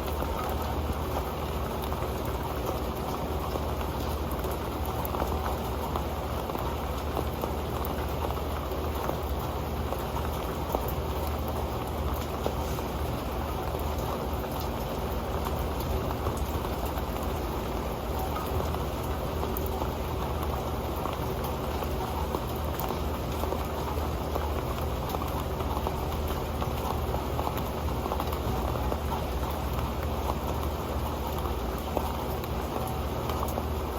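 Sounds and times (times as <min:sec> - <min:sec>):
rain patter on a metal pan: 0:00.0 - 0:33.9.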